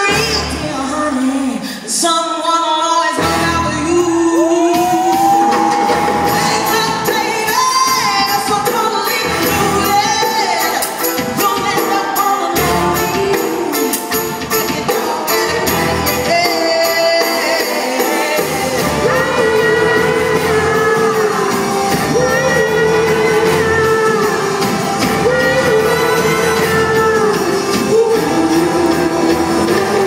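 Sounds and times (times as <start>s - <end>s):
orchestral band playing: 0.0s - 1.5s, 3.1s - 30.0s
person singing with vibrato: 0.0s - 30.0s.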